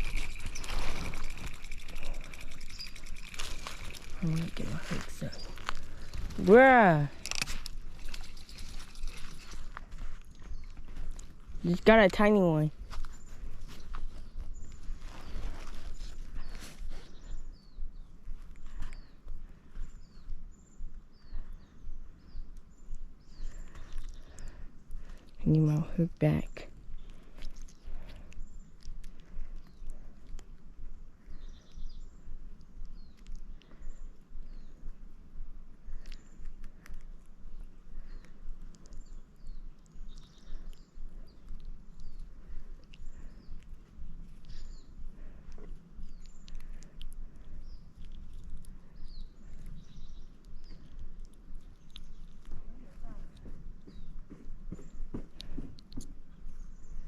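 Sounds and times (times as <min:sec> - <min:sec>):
small bird chirping: 0:00.0 - 0:57.0.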